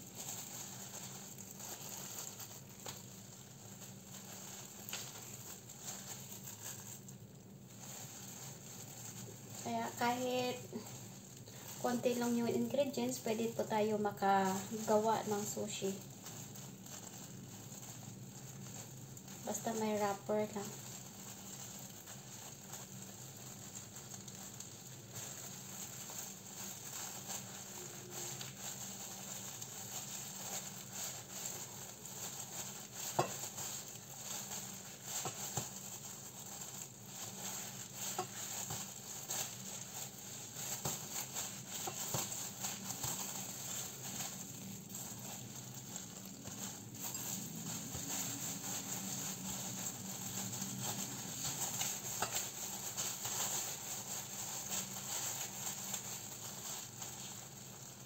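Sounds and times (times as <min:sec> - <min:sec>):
plastic gloves rustling: 0:00.0 - 0:58.0.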